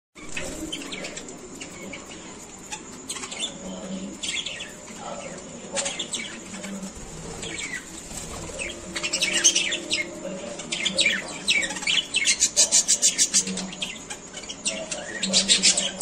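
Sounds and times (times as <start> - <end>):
budgerigars chirping: 0.2 - 16.0.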